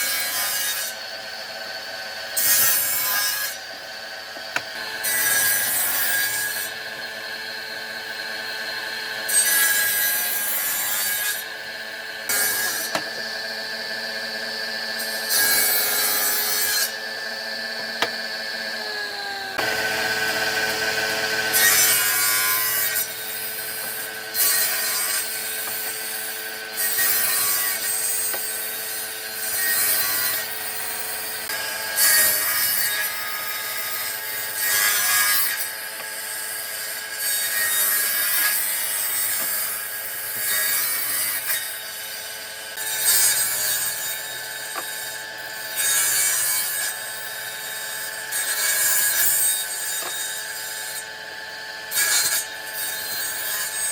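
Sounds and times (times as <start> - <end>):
power tool cutting into wood: 0.0 - 53.9.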